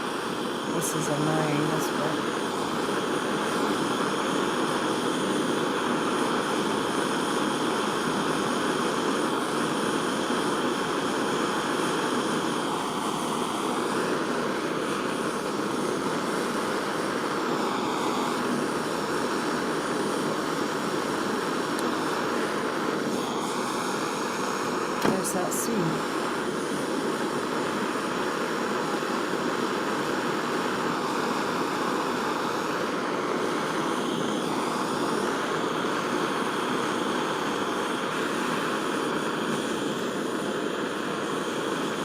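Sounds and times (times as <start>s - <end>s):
gas torch flame blowing: 0.0s - 42.0s.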